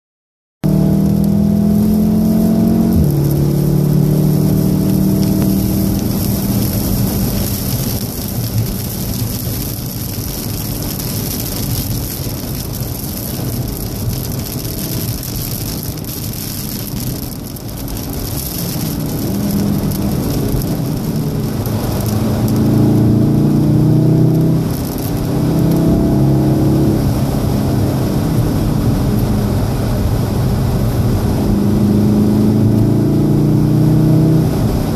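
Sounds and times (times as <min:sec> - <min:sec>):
car engine accelerating: 0:00.6 - 0:34.9
rain and tyre spray hiss: 0:00.7 - 0:33.3.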